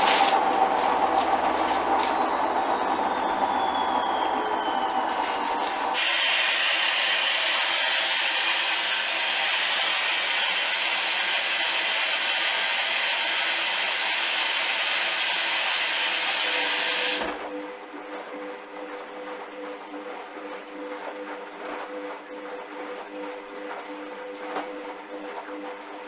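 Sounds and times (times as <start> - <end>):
washing machine rushing noise: 0.0 - 26.0.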